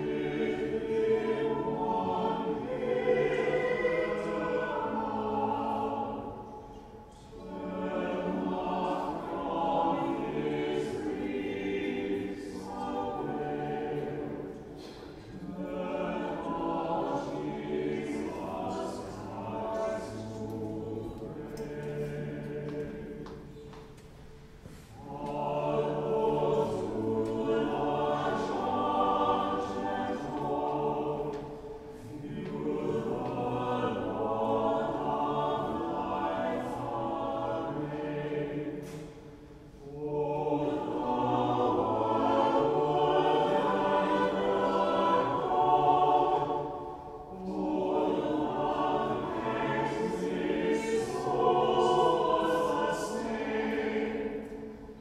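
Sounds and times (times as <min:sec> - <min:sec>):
church choir singing a hymn: 0:00.0 - 0:55.0.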